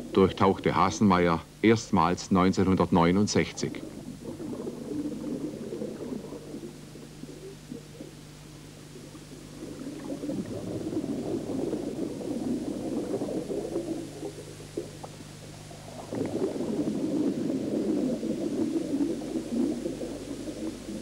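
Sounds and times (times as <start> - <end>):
underwater exhaled breath bubbling: 3.4 - 21.0.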